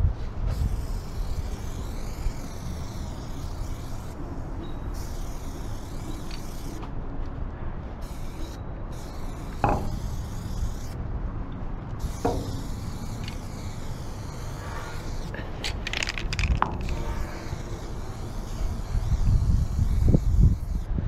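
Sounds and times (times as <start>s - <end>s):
spray paint can hissing: 0.5s - 6.9s, 8.0s - 11.0s, 12.0s - 21.0s.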